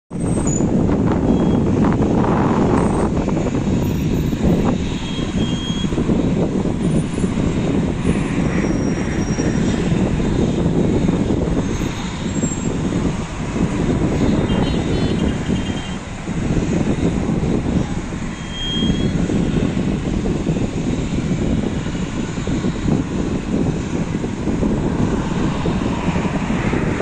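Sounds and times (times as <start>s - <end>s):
motorway traffic hum: 0.1s - 27.0s.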